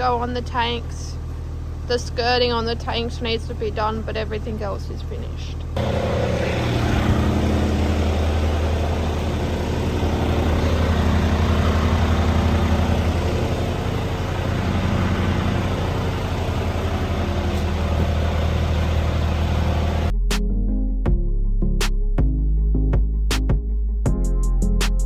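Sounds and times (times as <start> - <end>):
diesel truck engine running: 0.0 - 20.1.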